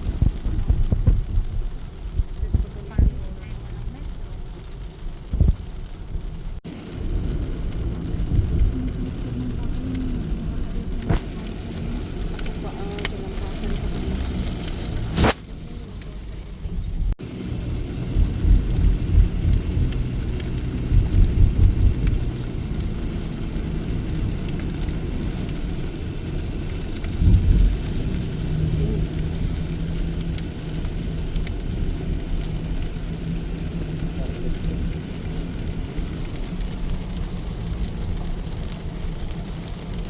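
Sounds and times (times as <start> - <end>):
rain: 0.0 - 40.0
thunder rumbling: 0.0 - 40.0.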